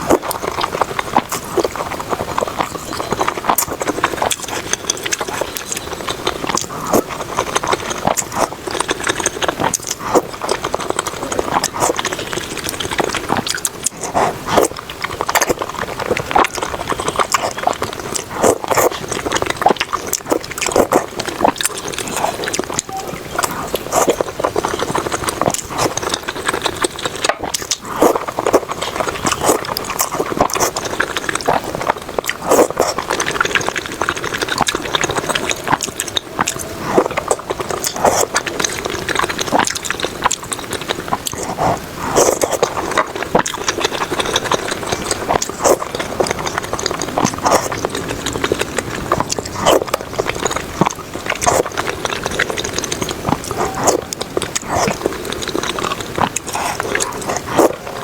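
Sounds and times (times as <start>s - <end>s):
chewing and wet smacking: 0.0s - 58.0s
slurping noodles: 0.0s - 58.0s.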